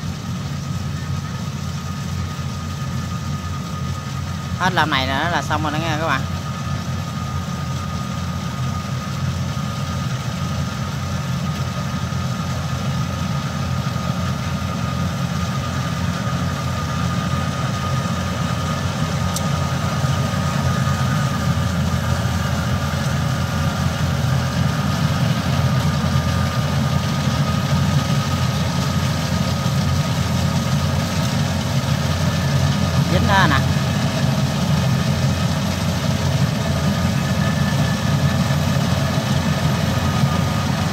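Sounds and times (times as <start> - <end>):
combine harvester engine droning: 0.0 - 40.9
thin steady whine: 0.0 - 40.9.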